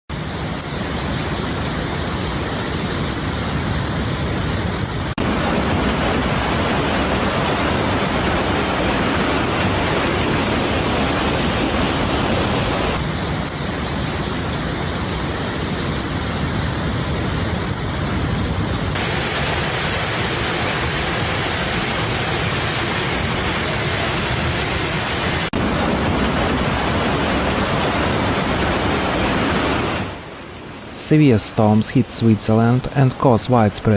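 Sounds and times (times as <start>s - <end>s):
rushing floodwater: 0.1s - 33.9s.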